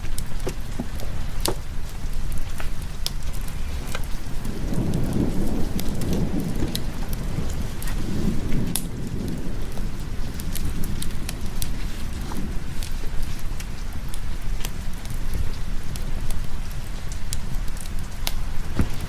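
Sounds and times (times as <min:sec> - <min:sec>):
low rumble of thunder: 0:00.0 - 0:19.0
steady rain: 0:00.0 - 0:19.0.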